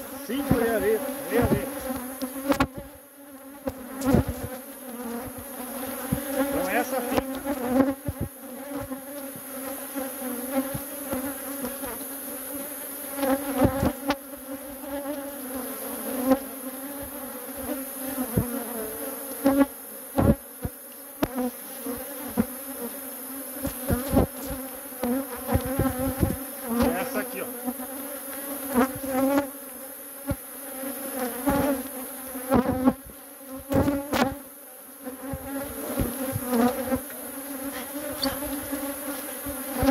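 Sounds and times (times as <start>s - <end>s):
honeybees buzzing: 0.0s - 39.9s.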